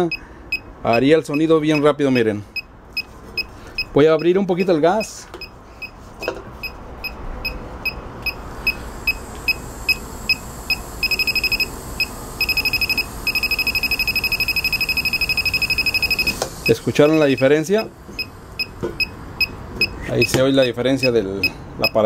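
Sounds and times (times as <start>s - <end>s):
leak detector beeping: 0.0s - 22.0s.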